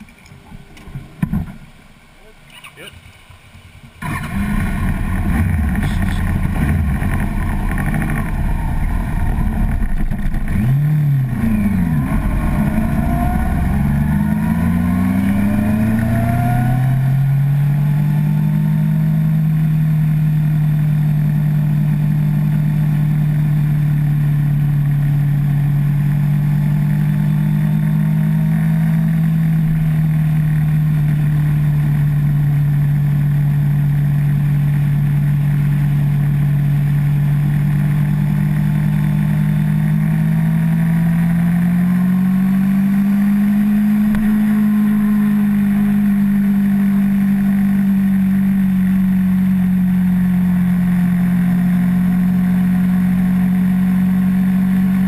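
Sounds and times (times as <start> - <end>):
motorcycle engine revving: 4.0 - 55.0.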